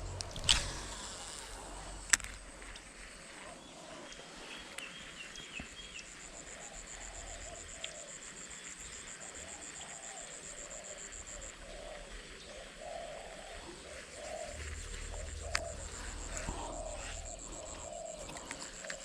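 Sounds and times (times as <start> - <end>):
insect trill: 0.0 - 19.0
lower bird calls: 2.7 - 19.0.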